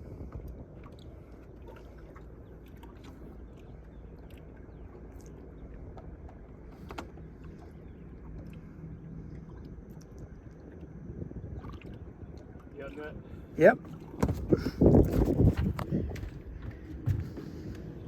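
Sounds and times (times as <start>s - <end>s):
fishing boat engine rumble: 0.0s - 18.0s.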